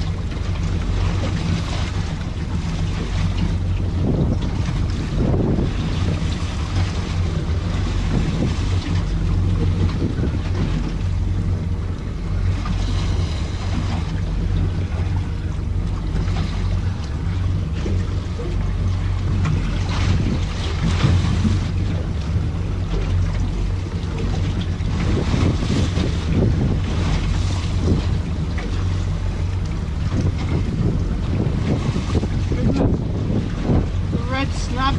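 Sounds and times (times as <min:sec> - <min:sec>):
boat engine running: 0:00.0 - 0:34.9
water noise: 0:00.0 - 0:34.9
wind on microphone: 0:00.0 - 0:34.9.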